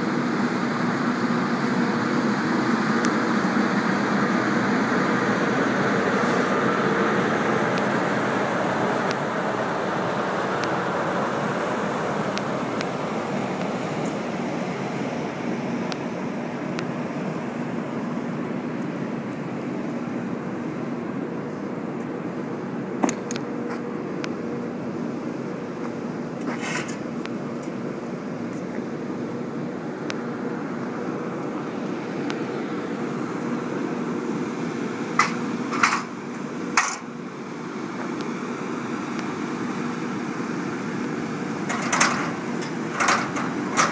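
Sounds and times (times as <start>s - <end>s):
machinery droning with low hum: 0.0s - 43.9s.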